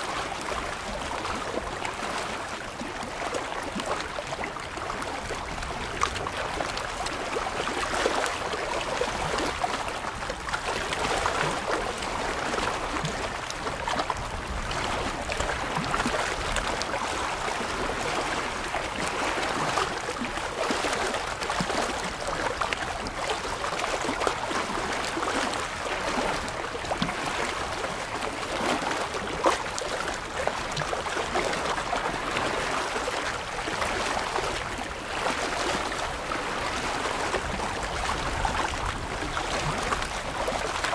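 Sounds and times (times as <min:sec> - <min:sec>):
small waves lapping against rocks: 0:00.0 - 0:40.9.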